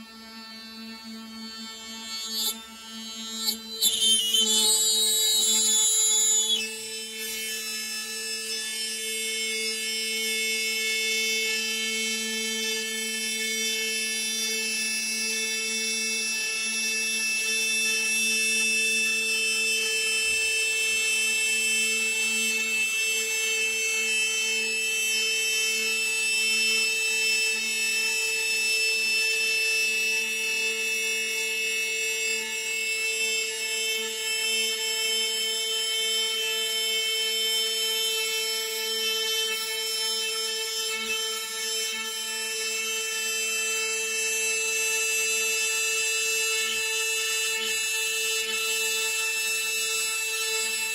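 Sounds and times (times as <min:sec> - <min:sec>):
router spindle whine cutting wood: 0:00.0 - 0:50.9.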